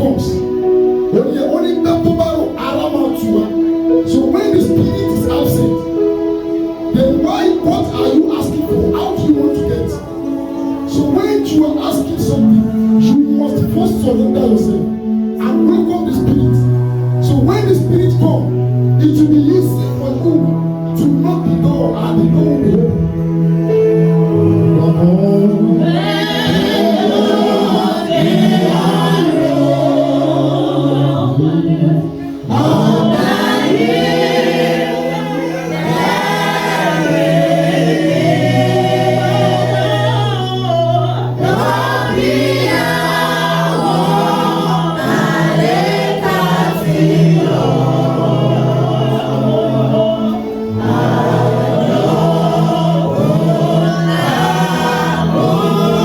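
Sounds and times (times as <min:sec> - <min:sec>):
choir singing a hymn: 0:00.0 - 0:56.0
low held accompaniment notes: 0:00.0 - 0:56.0.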